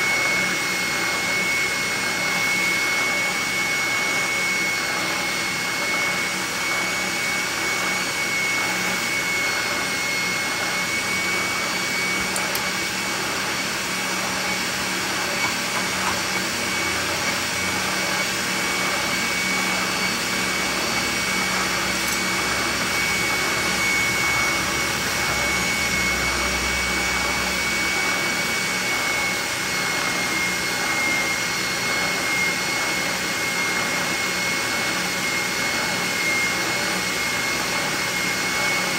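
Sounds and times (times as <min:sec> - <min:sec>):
shop vacuum air rush: 0:00.0 - 0:38.9
spindle sander whining: 0:00.0 - 0:38.9.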